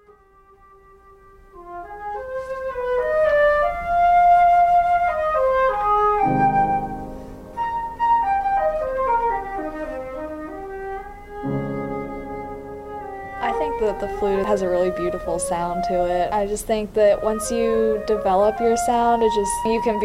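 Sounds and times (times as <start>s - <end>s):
flute melody: 0.0s - 20.0s
lower held notes: 0.0s - 20.0s.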